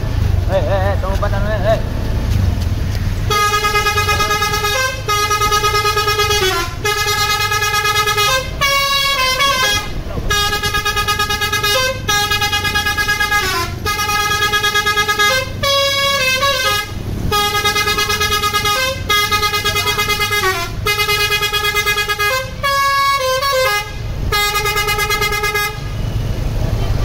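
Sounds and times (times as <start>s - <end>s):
bus horn playing a tune: 3.3s - 26.2s.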